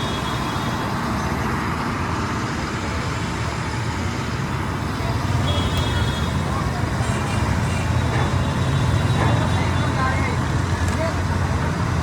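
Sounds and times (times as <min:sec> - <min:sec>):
heavy truck engine: 0:00.0 - 0:12.0
road noise: 0:00.0 - 0:12.0.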